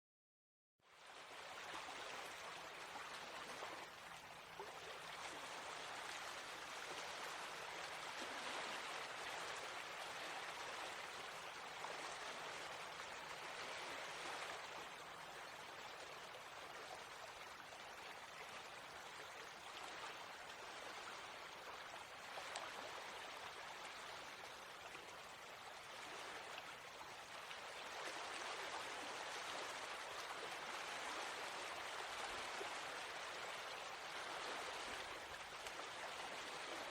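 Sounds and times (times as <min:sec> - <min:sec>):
stream babbling over stones: 0:01.1 - 0:36.9.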